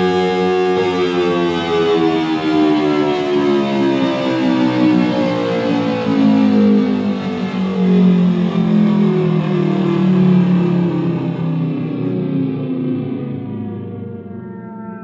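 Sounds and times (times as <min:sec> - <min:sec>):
synthesized siren winding down: 0:00.0 - 0:15.0.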